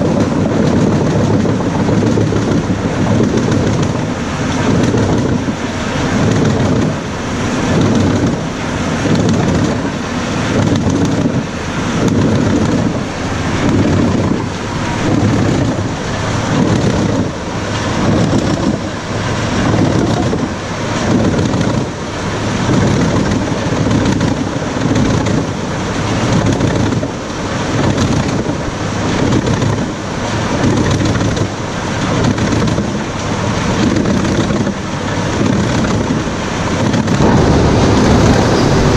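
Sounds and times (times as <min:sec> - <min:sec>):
wood chipper chipping logs: 0:00.0 - 0:38.9.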